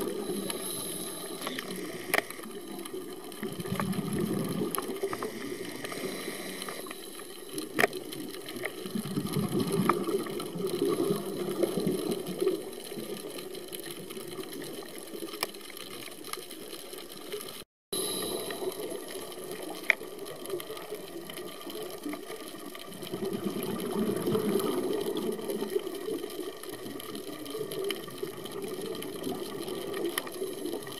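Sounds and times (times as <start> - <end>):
muffled underwater hiss: 0.0 - 30.9.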